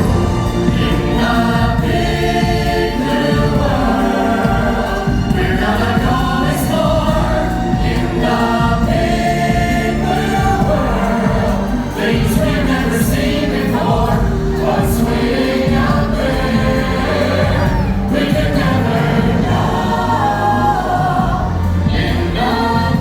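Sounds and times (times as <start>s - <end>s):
chorus singing: 0.0s - 23.0s
instrumental backing track: 0.0s - 23.0s.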